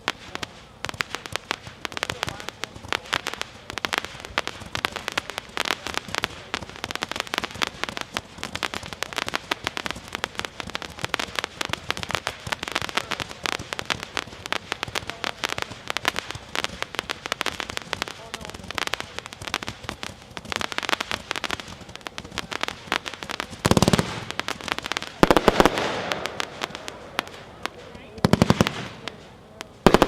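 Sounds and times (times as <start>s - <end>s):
firework cake rapid shots: 0.0s - 30.0s.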